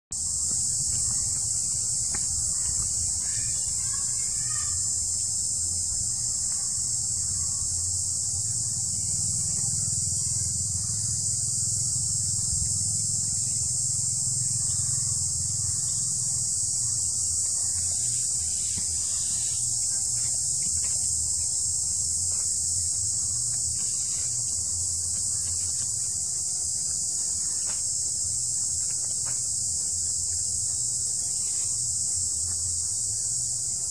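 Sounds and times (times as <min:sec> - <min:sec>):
insects buzzing: 0:00.1 - 0:33.9.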